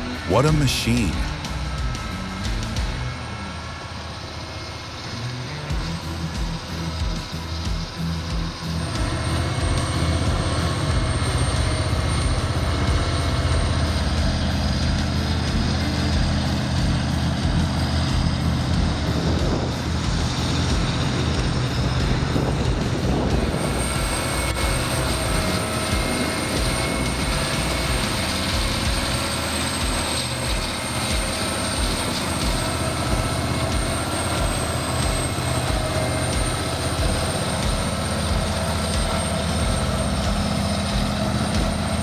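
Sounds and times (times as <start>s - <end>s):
large engine running under load: 0.0s - 42.0s.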